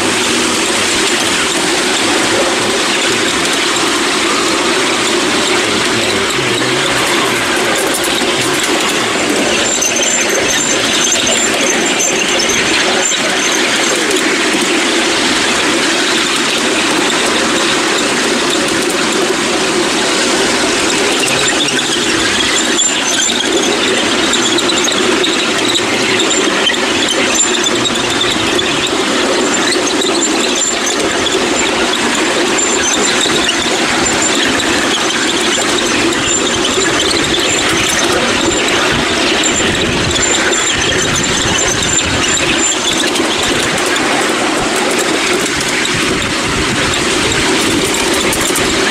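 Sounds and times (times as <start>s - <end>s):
high wheel squeal: 0.0s - 48.9s
steel wheels rattling on rails: 0.0s - 48.9s.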